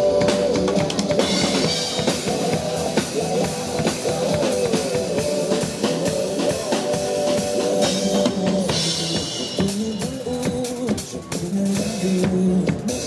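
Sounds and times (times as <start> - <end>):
drum kit: 0.0 - 13.0
guitar: 0.0 - 13.0.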